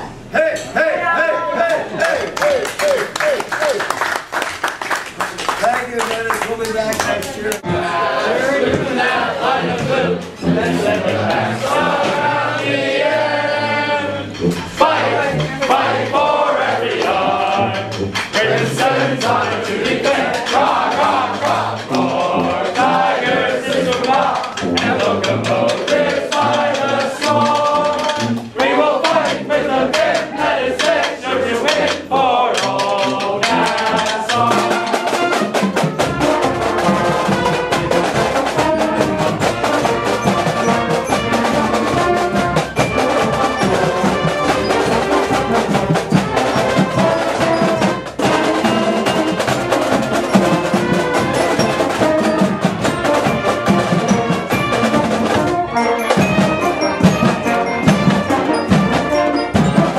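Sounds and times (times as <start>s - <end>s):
pep band playing: 0.0s - 59.9s.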